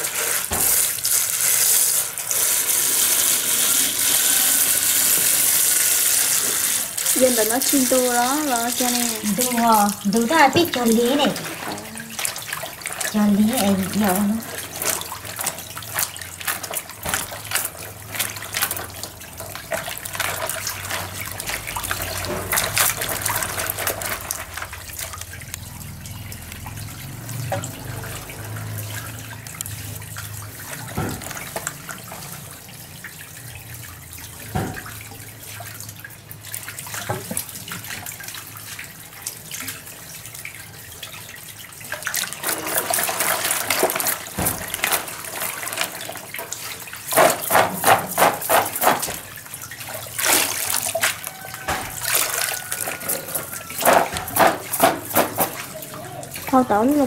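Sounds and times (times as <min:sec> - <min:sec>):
water splashing in basin: 0:00.0 - 0:57.0.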